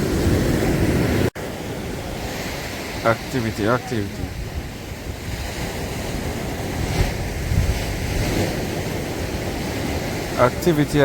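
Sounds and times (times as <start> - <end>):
sea surf washing in: 0.0 - 11.0
wind buffeting microphone: 0.0 - 11.0.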